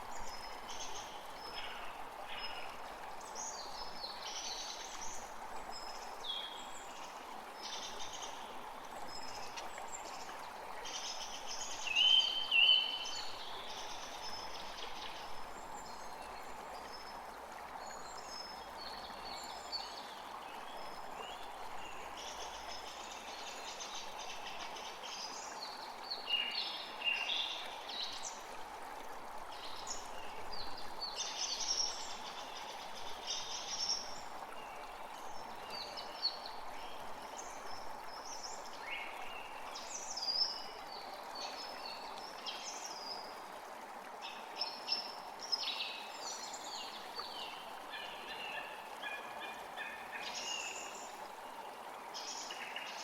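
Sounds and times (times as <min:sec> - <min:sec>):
creek flowing: 0:00.0 - 0:53.0.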